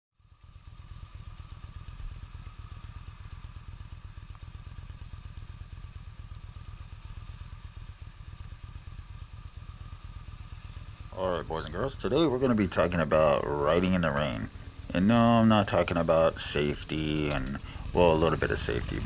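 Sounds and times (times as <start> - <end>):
motorcycle engine idling: 0.2 - 19.0.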